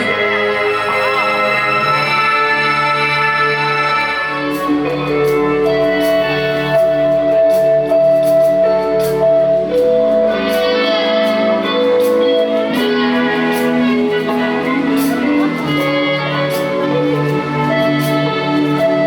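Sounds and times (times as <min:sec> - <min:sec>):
guitar melody: 0:00.0 - 0:19.0
held chords: 0:00.0 - 0:19.0.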